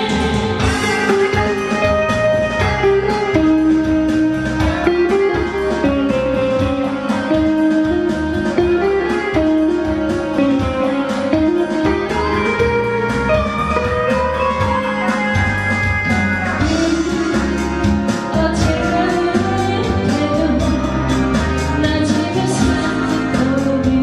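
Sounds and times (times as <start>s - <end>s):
guitar melody: 0.0s - 24.0s
steady drum beat: 0.0s - 24.0s.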